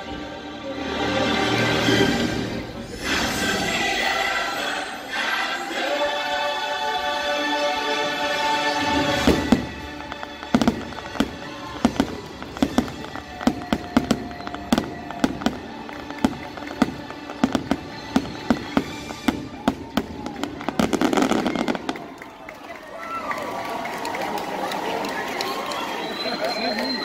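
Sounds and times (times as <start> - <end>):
orchestral music: 0.0 - 22.3.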